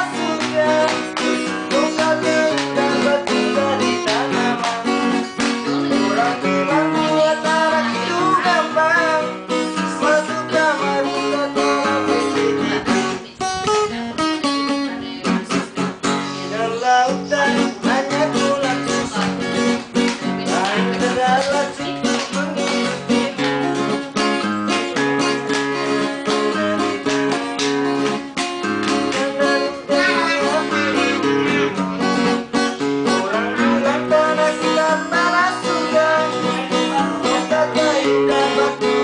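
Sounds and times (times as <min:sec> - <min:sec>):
man singing: 0:00.0 - 0:13.2, 0:15.2 - 0:39.0
acoustic guitar strumming: 0:00.0 - 0:39.0.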